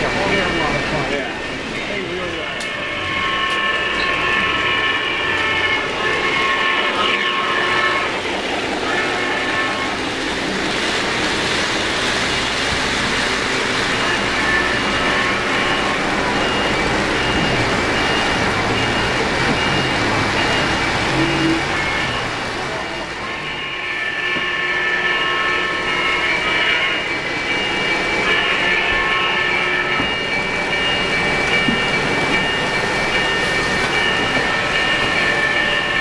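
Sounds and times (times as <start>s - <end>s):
model train wheels rumbling: 0.0s - 36.0s
steady background din: 0.0s - 36.0s.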